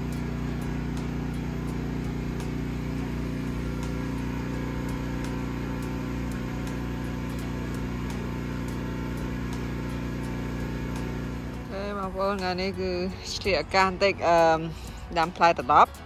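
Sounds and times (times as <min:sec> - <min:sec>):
small engine humming: 0:00.0 - 0:16.0.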